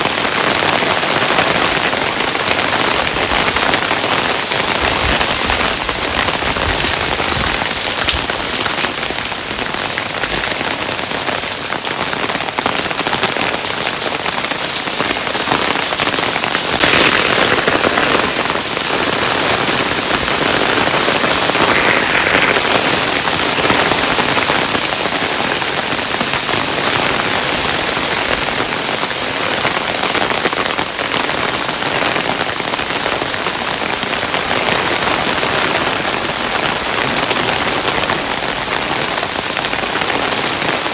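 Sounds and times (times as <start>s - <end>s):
hailstones pattering: 0.1s - 40.9s.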